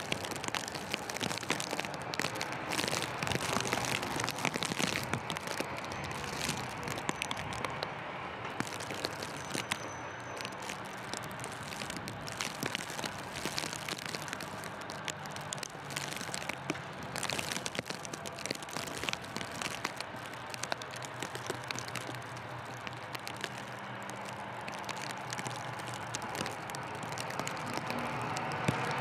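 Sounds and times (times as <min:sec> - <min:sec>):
crackling ticks: 0:00.0 - 0:29.0
traffic: 0:00.0 - 0:29.0.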